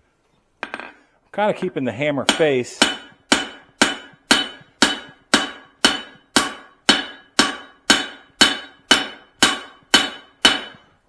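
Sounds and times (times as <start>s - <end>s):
hammer striking metal on anvil: 0.6s - 1.0s, 1.6s - 11.0s.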